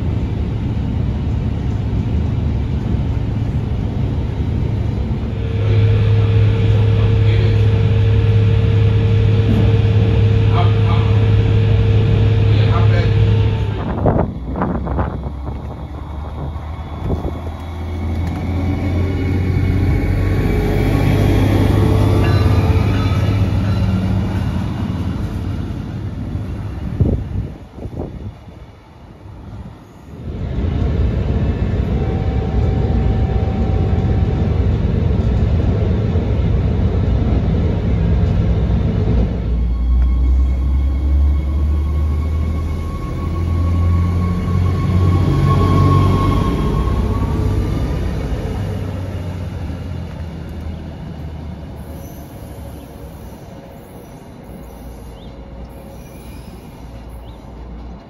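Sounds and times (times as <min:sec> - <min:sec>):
train engine and wheels rumbling: 0:00.0 - 0:58.0.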